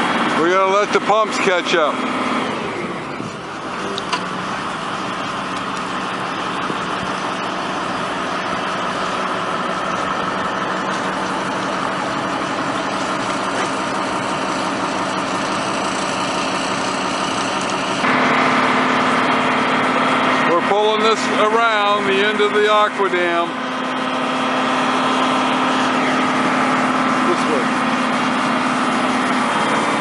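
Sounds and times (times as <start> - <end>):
engines running with low hum: 0.0 - 30.0.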